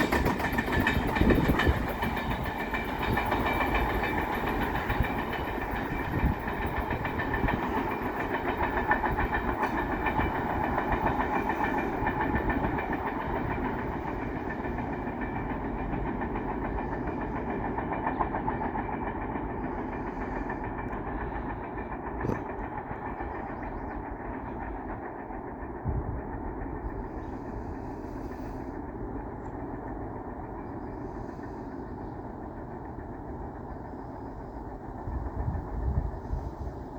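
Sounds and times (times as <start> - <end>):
freight train rumbling: 0.0 - 36.9
train cars knocking: 0.0 - 36.9.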